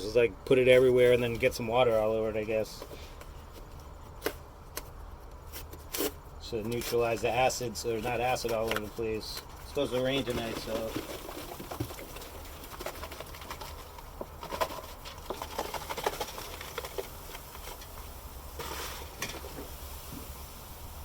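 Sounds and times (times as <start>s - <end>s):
powder patter with small clicks: 1.1s - 20.4s.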